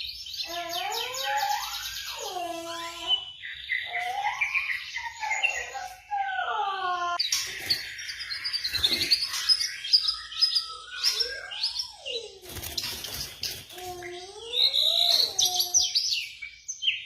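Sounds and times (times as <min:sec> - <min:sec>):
songbird whistled song: 0:00.0 - 0:06.3, 0:07.2 - 0:17.0.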